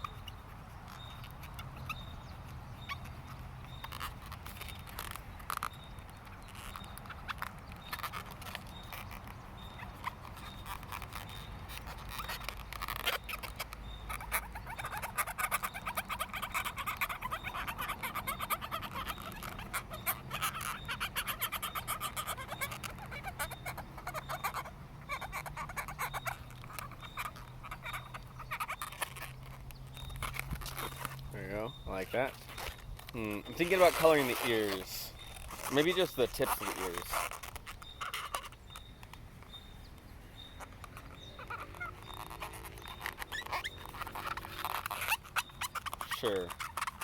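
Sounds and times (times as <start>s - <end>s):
marker squeaking on a balloon: 0.0s - 39.7s, 40.4s - 47.0s.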